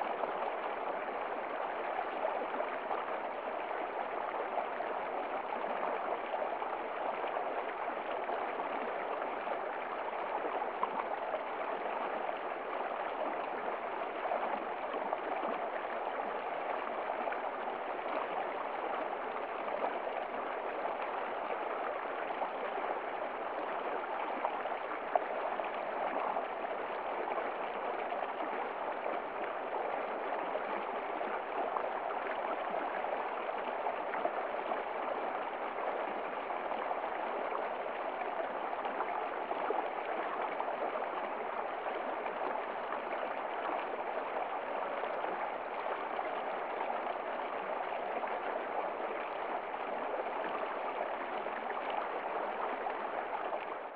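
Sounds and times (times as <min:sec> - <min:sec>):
stream running over rocks: 0:00.0 - 0:53.9.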